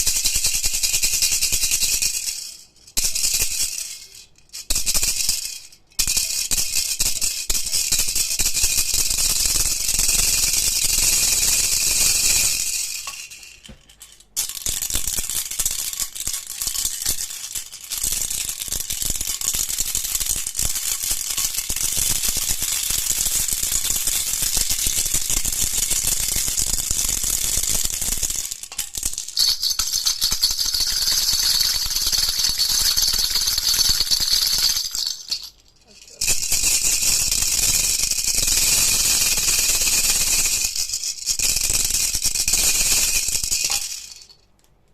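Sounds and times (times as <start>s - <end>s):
baby rattle shaken: 0.0s - 44.5s.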